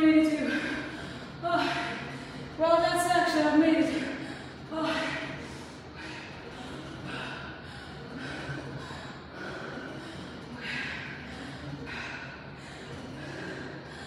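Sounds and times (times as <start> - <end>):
steady low hum: 0.0 - 14.0
woman breathing hard: 0.3 - 2.6, 3.9 - 14.0.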